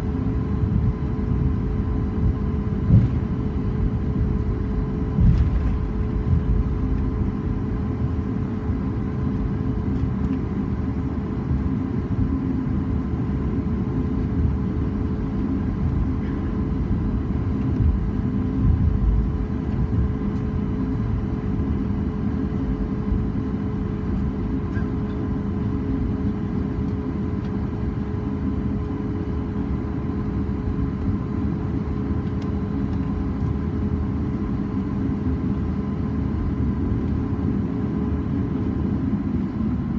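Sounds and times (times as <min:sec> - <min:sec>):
aircraft cabin low rumble: 0:00.0 - 0:39.9
jet engines whining at idle: 0:00.0 - 0:39.9.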